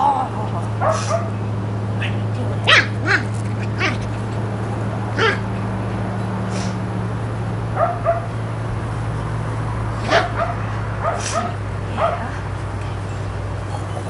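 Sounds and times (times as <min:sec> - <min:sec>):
puppies yapping and barking: 0:00.0 - 0:06.8, 0:07.5 - 0:14.0.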